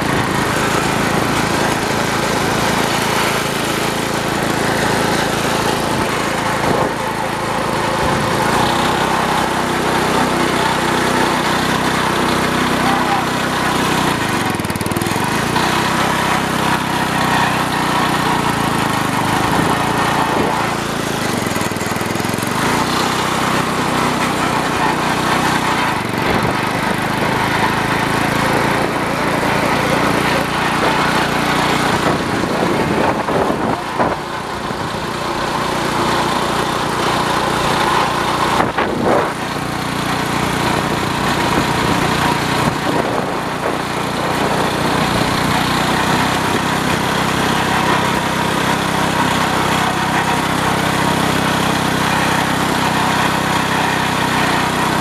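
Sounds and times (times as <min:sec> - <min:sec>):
riding lawn tractor engine: 0:00.0 - 0:55.0.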